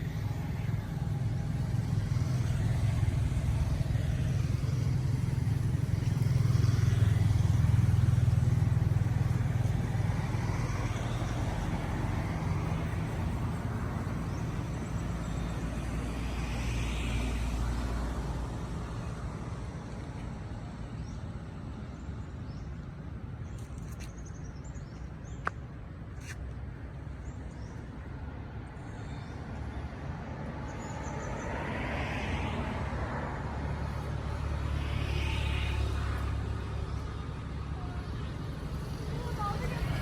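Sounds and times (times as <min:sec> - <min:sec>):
road vehicles rumbling: 0:00.0 - 0:40.0.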